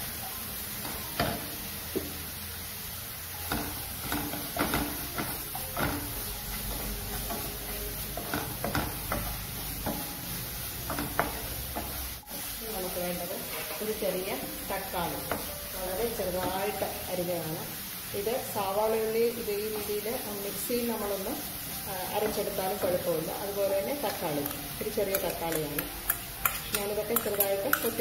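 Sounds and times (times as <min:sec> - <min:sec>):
onions sizzling: 0:00.0 - 0:28.0.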